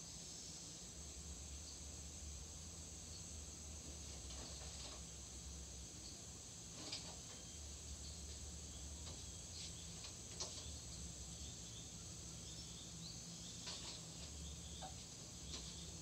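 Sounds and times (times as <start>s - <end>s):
steady high background hiss: 0.0s - 16.0s.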